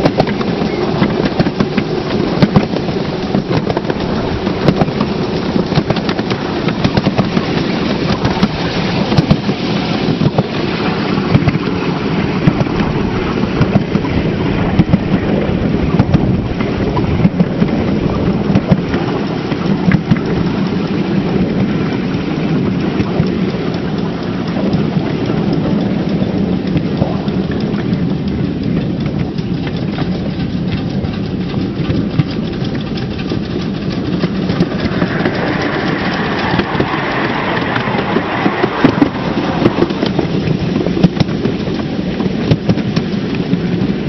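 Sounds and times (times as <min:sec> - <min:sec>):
miniature train rumbling on track: 0:00.0 - 0:44.0
rapid clicks and rattles: 0:00.0 - 0:44.0.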